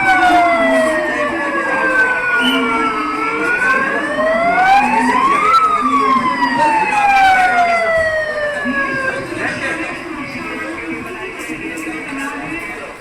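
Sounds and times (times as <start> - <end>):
emergency vehicle siren wailing: 0.0 - 12.4.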